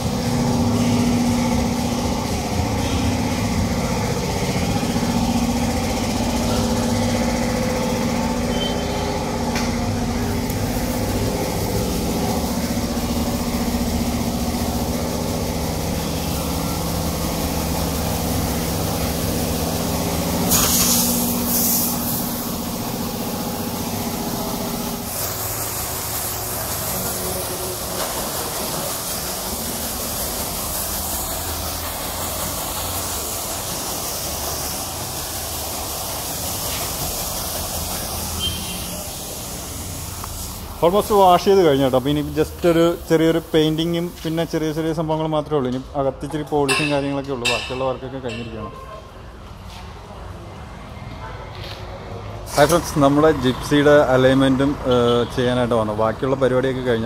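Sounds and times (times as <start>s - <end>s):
water jet spray hiss: 0.0s - 45.3s, 52.4s - 55.2s
pressure washer pump humming: 0.0s - 48.6s, 52.2s - 57.0s.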